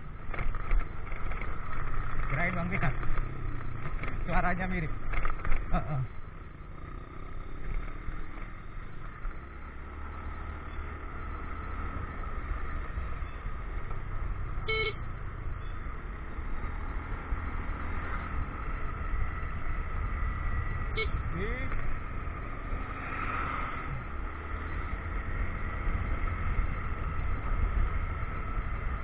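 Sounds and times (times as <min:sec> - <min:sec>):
motorcycle engine and road rumble: 0:00.0 - 0:29.0.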